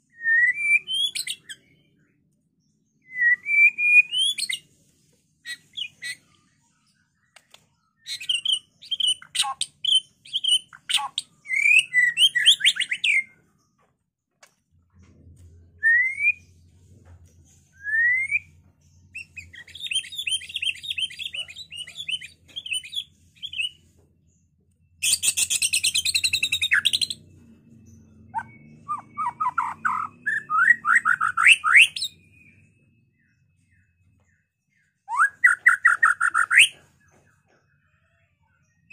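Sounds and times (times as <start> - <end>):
bird song whistles and trills: 0.0 - 13.8, 14.9 - 38.9.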